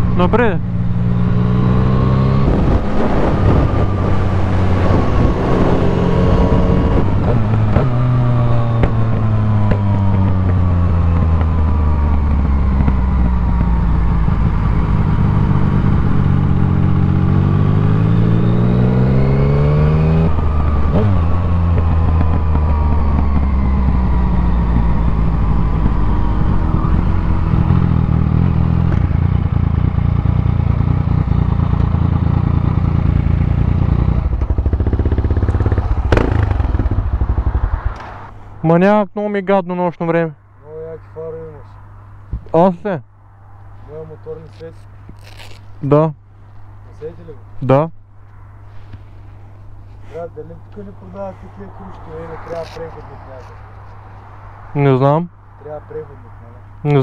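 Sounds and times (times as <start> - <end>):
motorcycle engine revving: 0.0 - 38.3, 49.5 - 57.0.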